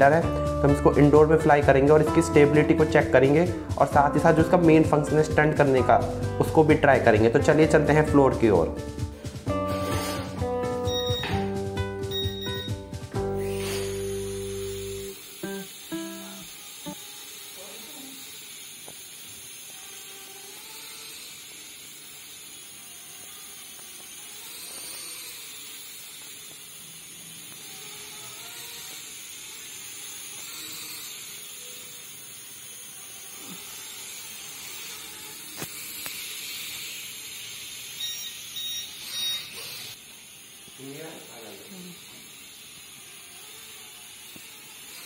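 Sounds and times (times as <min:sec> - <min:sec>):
toy drone propellers whirring: 0:07.0 - 0:11.4, 0:12.1 - 0:45.0.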